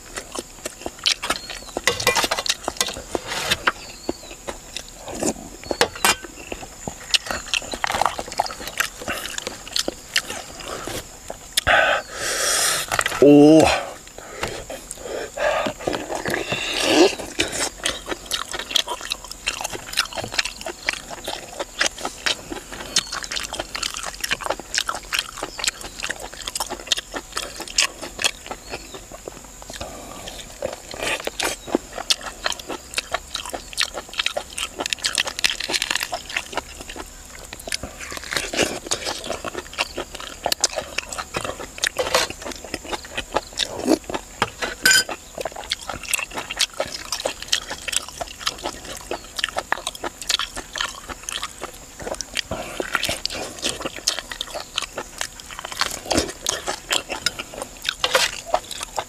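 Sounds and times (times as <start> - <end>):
person chewing and mouth sounds: 0.0 - 59.0.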